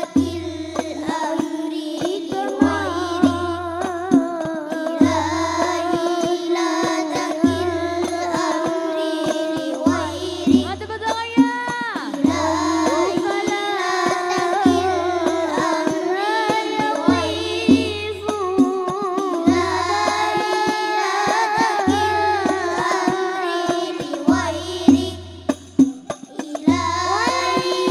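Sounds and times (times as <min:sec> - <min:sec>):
children singing together: 0:00.0 - 0:27.9
frame drums: 0:00.0 - 0:27.9.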